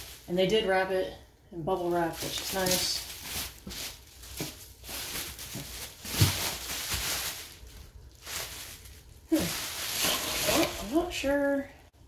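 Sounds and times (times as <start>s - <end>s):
bubble wrap rustling and crinkling: 0.0s - 0.9s, 1.7s - 11.6s.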